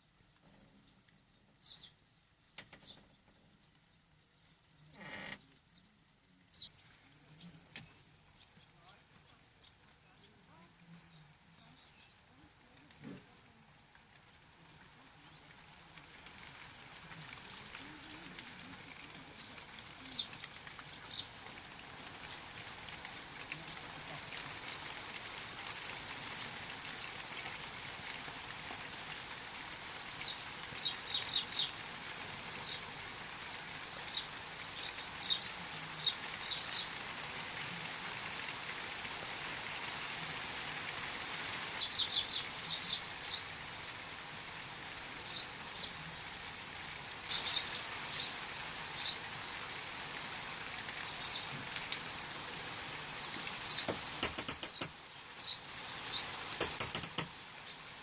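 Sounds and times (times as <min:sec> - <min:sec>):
rain hiss: 0:00.0 - 0:58.0
small birds chirping: 0:00.4 - 0:38.0, 0:41.6 - 0:44.0, 0:44.9 - 0:58.0.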